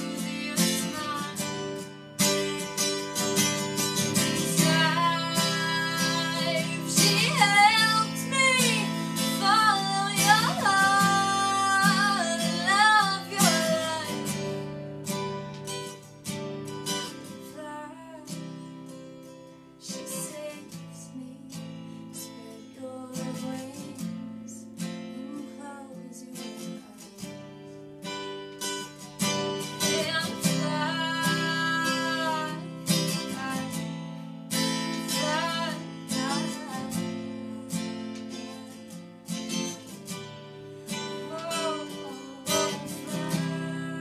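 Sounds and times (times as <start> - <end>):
woman singing: 0.0 - 15.6, 16.9 - 18.9, 19.8 - 44.0
acoustic guitar strummed: 0.0 - 44.0.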